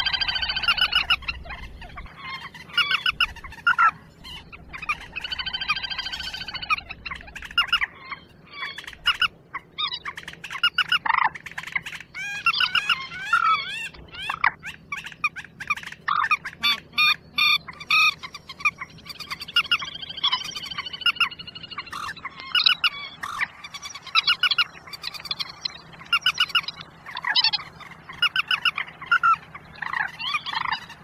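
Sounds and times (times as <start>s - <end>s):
recorded bird calls: 0.0s - 31.0s.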